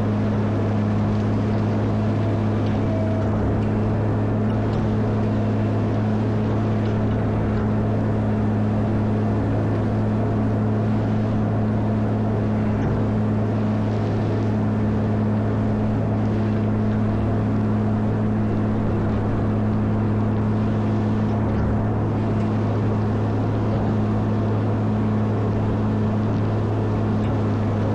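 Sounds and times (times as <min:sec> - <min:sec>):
diesel engine running steadily: 0:00.0 - 0:27.9.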